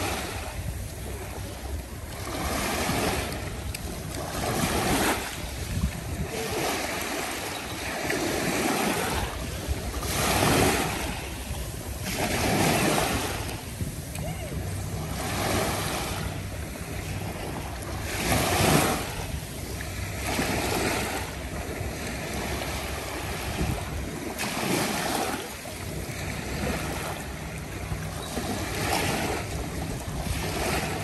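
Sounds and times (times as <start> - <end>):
small waves breaking on shore: 0.0 - 31.0
wind rumble on microphone: 0.0 - 31.0.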